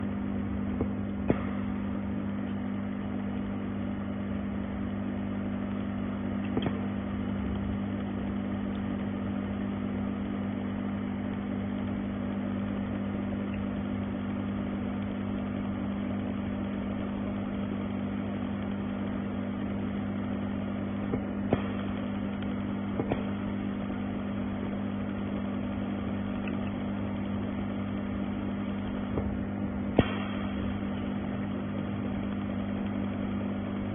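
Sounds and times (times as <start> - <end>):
welding machine electrical hum: 0.0 - 33.9.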